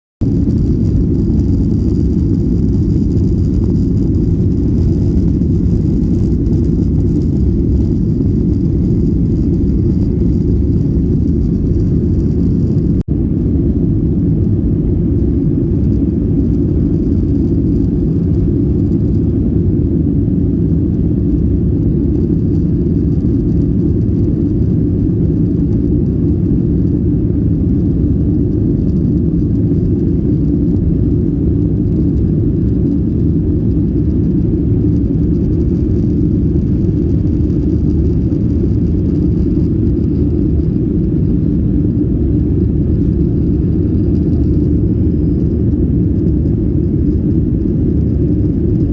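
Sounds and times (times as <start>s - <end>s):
airplane cabin rumble: 0.2s - 48.9s.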